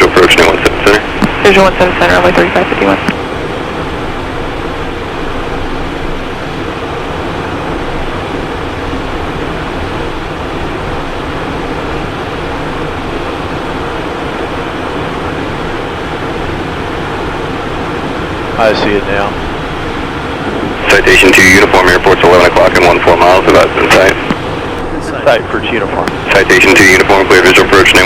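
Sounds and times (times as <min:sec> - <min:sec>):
jet engines humming: 0:00.0 - 0:28.0
rushing airflow in cockpit: 0:00.0 - 0:28.0.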